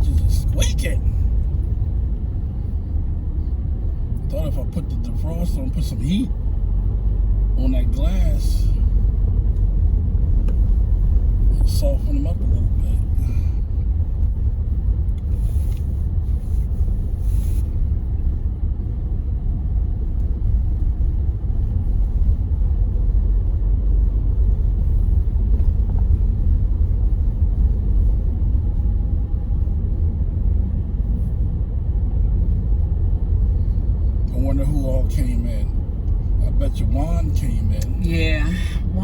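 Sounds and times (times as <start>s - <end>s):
car cabin rumble: 0.0s - 39.0s.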